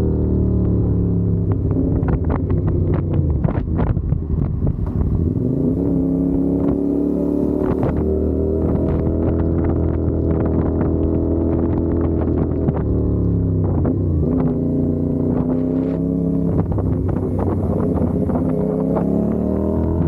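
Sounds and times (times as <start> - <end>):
motorcycle engine running: 0.0 - 20.0
wind buffeting microphone: 1.2 - 7.0, 7.6 - 20.0.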